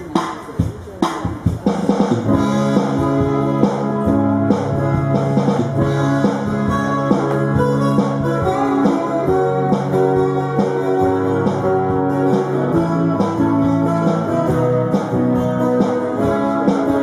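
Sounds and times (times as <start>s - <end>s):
amplified guitars playing: 2.1s - 17.0s.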